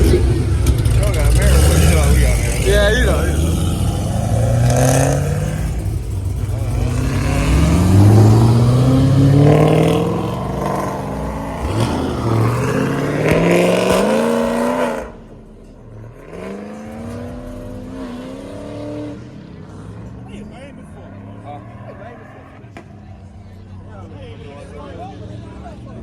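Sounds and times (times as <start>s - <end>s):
car engine accelerating hard: 0.0s - 26.0s
quieter engine: 0.0s - 26.0s.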